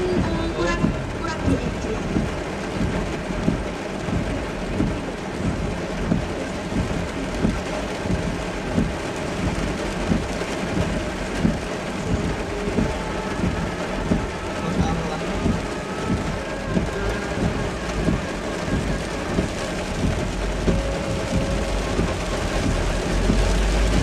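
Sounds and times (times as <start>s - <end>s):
heavy rain on car: 0.0s - 24.0s
road noise: 0.0s - 24.0s.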